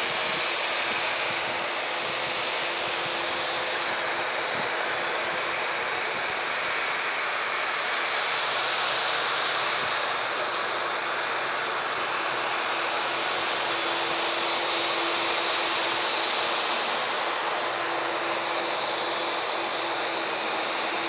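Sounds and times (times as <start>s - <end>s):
jet engine rush: 0.0s - 21.0s.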